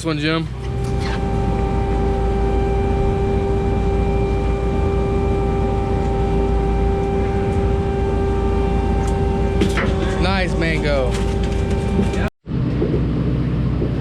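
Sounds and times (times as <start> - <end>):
boat machinery droning: 0.0 - 14.0.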